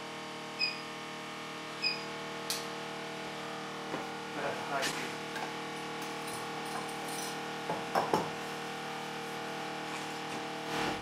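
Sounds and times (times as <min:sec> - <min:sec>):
shop equipment humming: 0:00.0 - 0:11.0.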